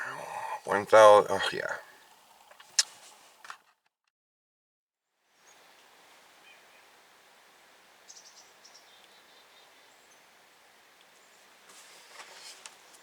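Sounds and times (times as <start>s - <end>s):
faint outdoor hiss: 0.0s - 3.7s, 5.2s - 13.0s.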